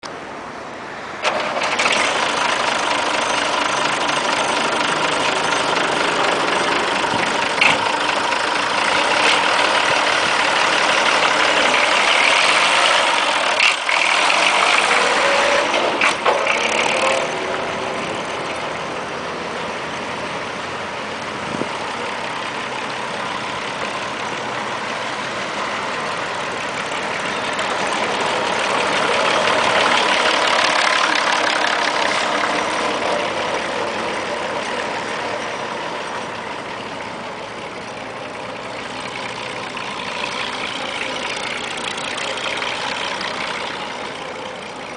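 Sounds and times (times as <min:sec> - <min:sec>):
tractor diesel engine running: 0:01.2 - 0:44.9.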